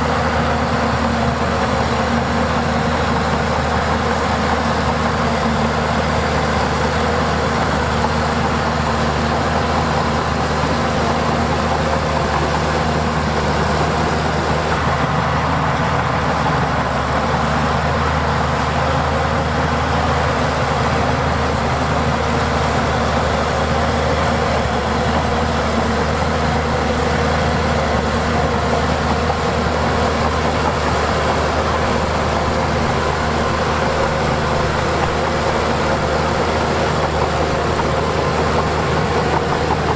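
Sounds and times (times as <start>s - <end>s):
heavy machinery diesel engine running: 0.0s - 39.9s.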